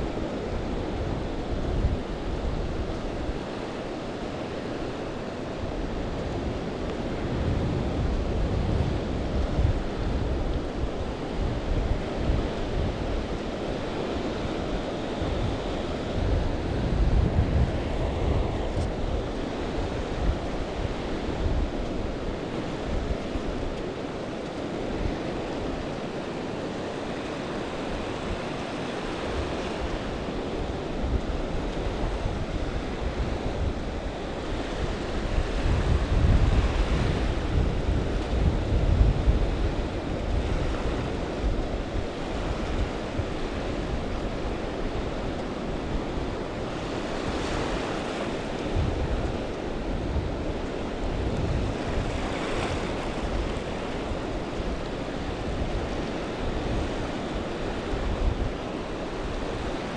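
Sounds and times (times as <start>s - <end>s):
small waves breaking on sand: 0.0s - 59.9s
wind buffeting microphone: 0.0s - 59.9s.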